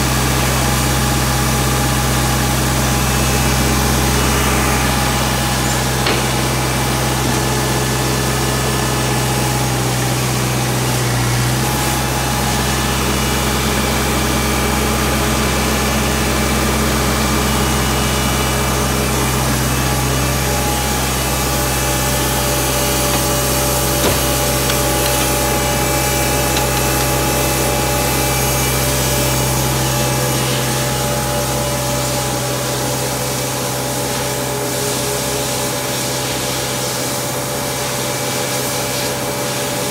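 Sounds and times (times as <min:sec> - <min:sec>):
diesel engine running: 0:00.0 - 0:38.2
whining machine hum: 0:00.0 - 0:39.9.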